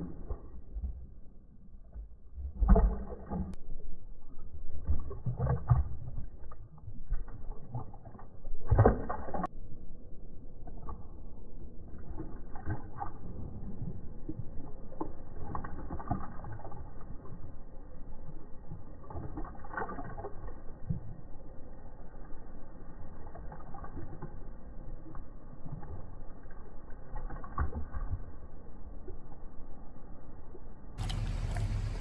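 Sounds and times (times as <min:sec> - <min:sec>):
dog lapping water: 0:00.0 - 0:09.5, 0:10.6 - 0:29.4, 0:31.0 - 0:32.0.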